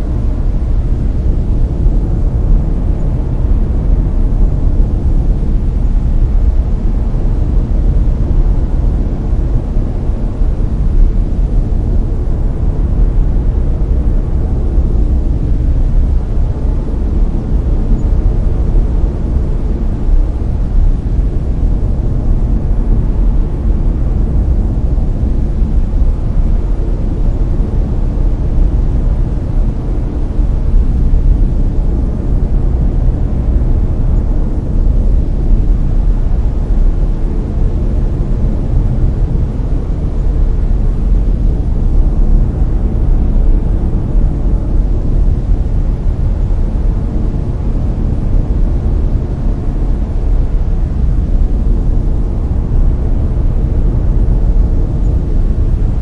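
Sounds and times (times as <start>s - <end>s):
deep brown noise rumble: 0.0s - 56.0s.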